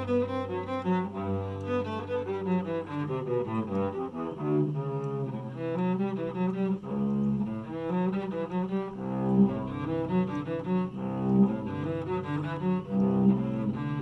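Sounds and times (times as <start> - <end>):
bowed cello: 0.0 - 14.0.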